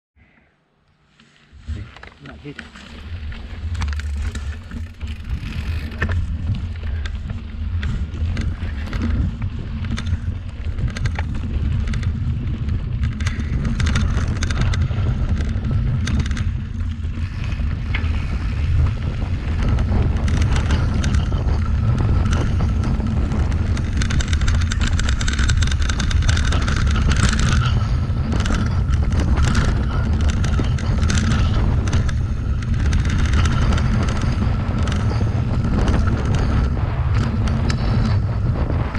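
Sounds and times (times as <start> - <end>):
bike clicks and rattles: 1.2 - 38.9
wind buffeting microphone: 1.6 - 38.9.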